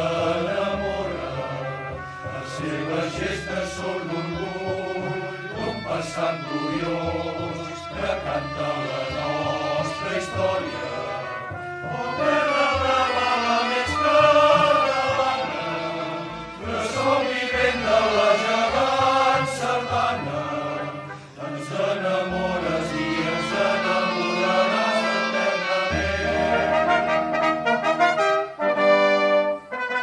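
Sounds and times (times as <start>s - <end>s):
choir singing with accompaniment: 0.0s - 29.8s
held brass chords: 0.0s - 30.0s.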